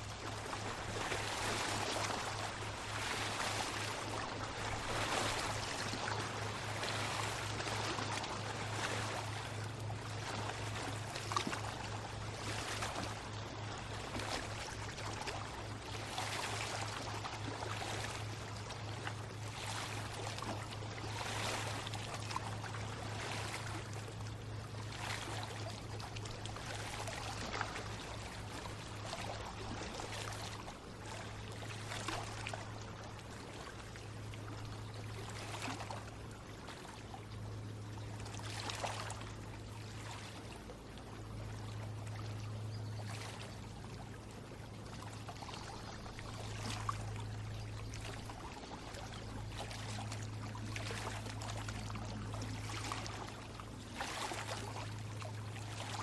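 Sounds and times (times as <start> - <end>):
steady low hum: 0.0 - 56.0
water trickling and splashing: 0.0 - 56.0.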